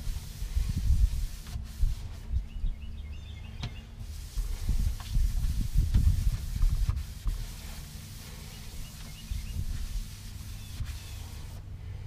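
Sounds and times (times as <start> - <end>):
paper towel rubbing: 0.0 - 2.4, 4.0 - 11.6.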